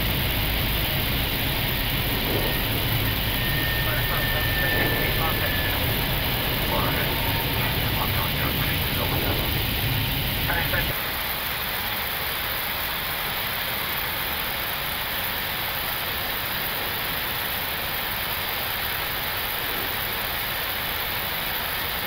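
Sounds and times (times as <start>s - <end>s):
cockpit airflow hiss: 0.0s - 22.0s.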